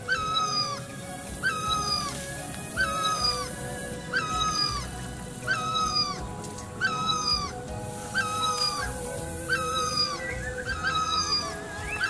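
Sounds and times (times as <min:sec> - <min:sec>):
animal high cry: 0:00.0 - 0:12.0.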